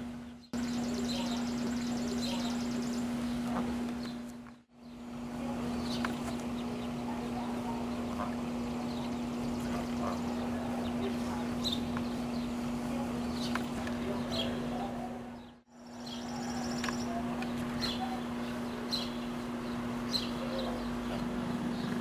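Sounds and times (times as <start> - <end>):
steady low hum: 0.0 - 22.0
ducks calling: 0.4 - 22.0.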